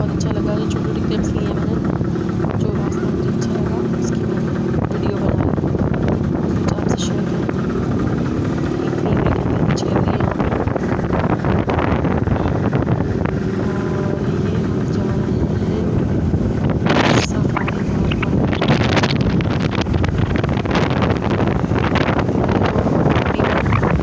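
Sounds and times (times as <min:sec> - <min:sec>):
vehicle engine and road noise: 0:00.0 - 0:24.0
wind buffeting microphone: 0:00.0 - 0:24.0.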